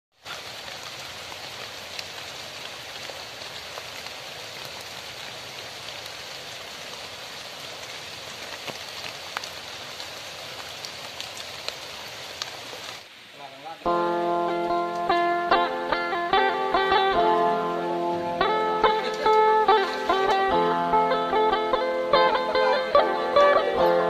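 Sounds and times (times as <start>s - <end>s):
hiss of falling water: 0.1s - 24.0s.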